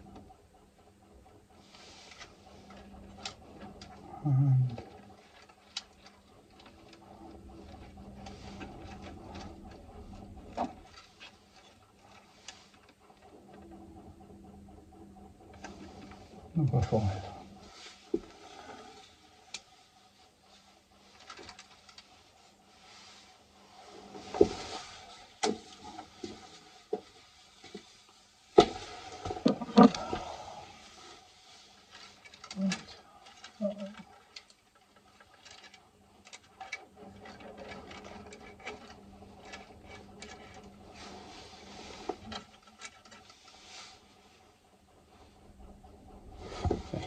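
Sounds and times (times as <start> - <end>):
steady hum: 0.0 - 47.0
rustling and scraping of wires: 1.5 - 47.0.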